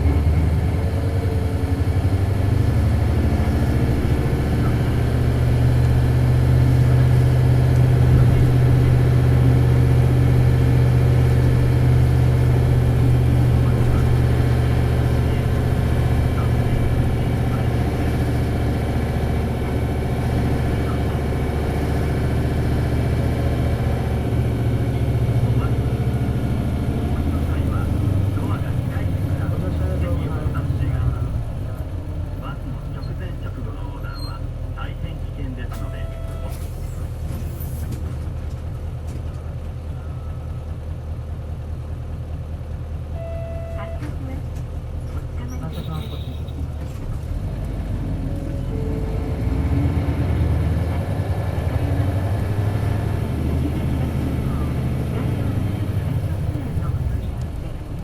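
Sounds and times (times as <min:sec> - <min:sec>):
bus diesel engine under load: 0:00.0 - 0:58.0.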